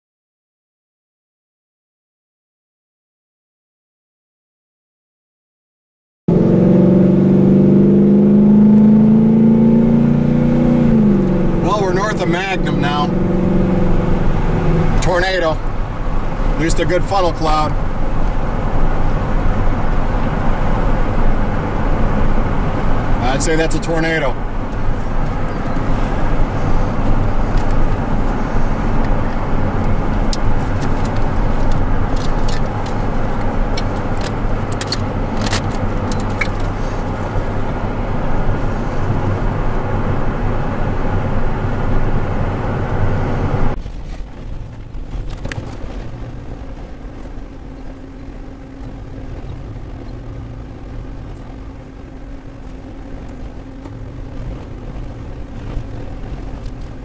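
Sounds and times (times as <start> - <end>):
car road and engine noise: 6.3 - 57.0.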